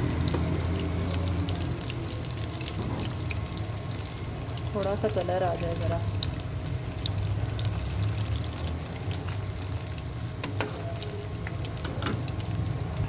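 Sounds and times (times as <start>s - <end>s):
chicken deep-frying in oil: 0.0s - 13.0s
oil crackling: 0.0s - 13.0s.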